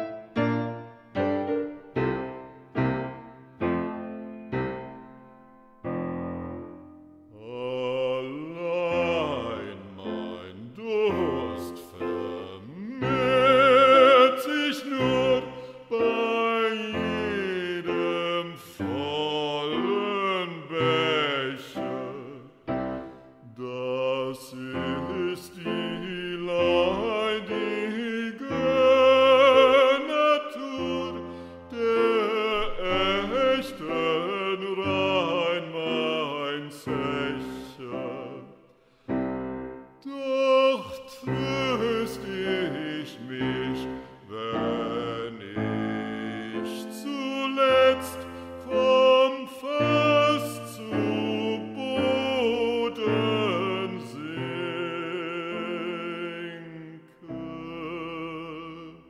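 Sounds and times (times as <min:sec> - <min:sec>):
musical accompaniment: 0:00.0 - 0:56.2
bass voice singing operatically: 0:06.6 - 0:38.6, 0:40.0 - 0:59.0.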